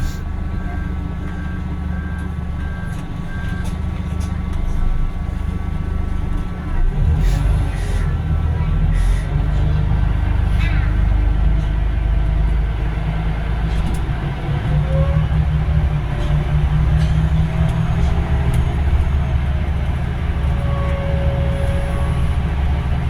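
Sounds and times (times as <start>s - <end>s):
bus engine drone: 0.0s - 23.0s.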